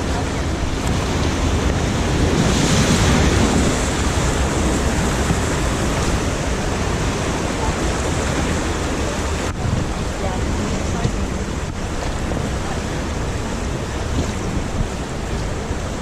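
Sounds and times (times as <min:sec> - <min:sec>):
river water rushing: 0:00.0 - 0:16.0
wind rumbling on microphone: 0:00.0 - 0:16.0.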